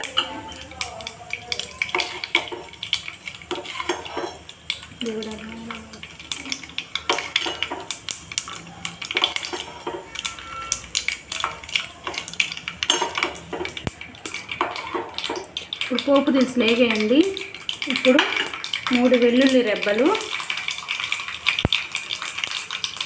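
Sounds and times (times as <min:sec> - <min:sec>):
spoon clinking against a steel pot: 0:00.0 - 0:04.9, 0:05.7 - 0:19.6
seeds frying in oil: 0:00.0 - 0:23.0.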